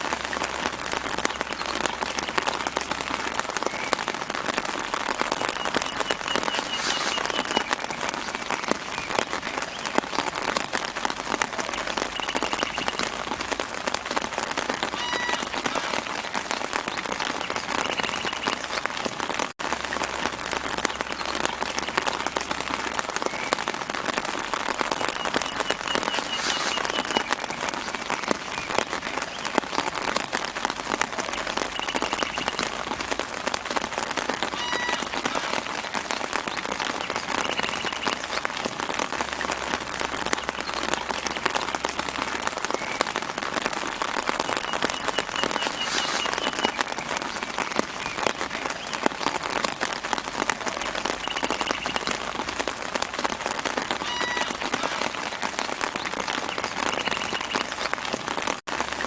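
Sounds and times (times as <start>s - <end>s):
light rain pattering on leaves: 0.0s - 59.0s.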